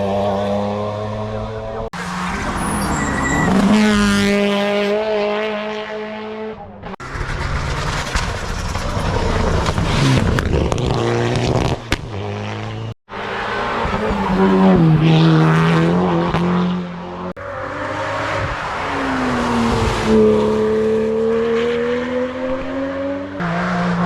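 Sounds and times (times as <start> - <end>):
race car engines at high revs: 0.0 - 24.0.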